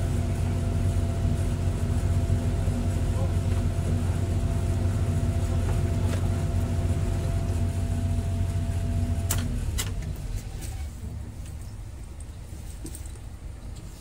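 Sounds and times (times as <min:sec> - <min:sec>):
diesel engine idling: 0:00.0 - 0:12.6.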